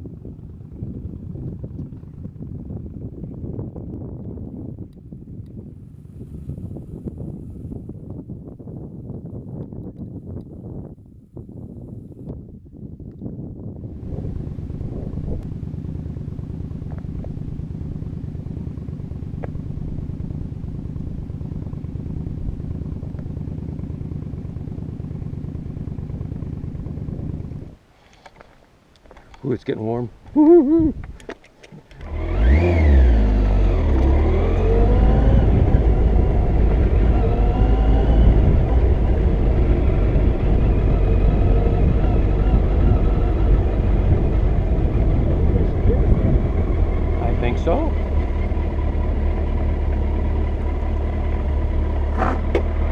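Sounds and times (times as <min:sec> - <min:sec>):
motorcycle engine running: 0:00.0 - 0:27.8, 0:30.3 - 0:52.9.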